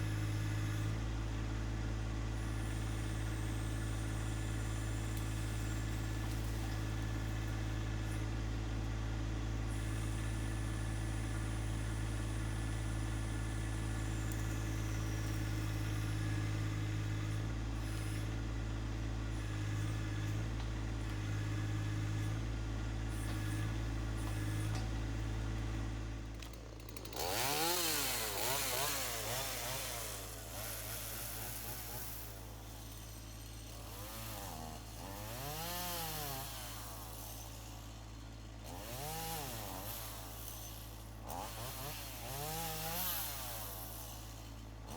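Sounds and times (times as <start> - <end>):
chainsaw revving and cutting: 0.0 - 44.9.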